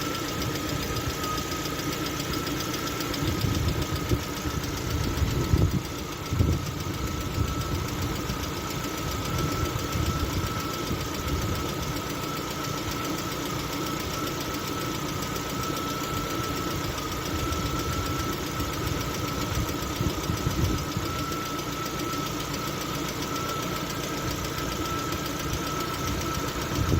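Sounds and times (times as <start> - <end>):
engine running: 0.0 - 26.9
steady whine: 0.0 - 26.9.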